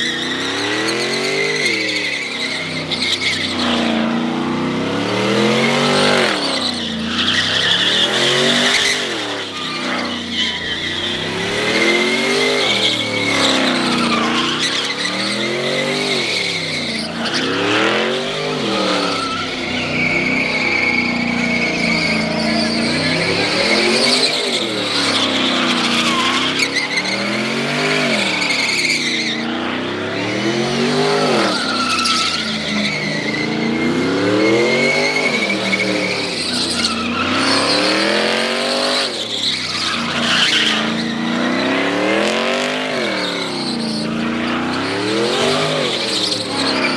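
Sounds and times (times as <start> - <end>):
car engine revving: 0.0 - 46.9
tires squealing: 0.0 - 46.9.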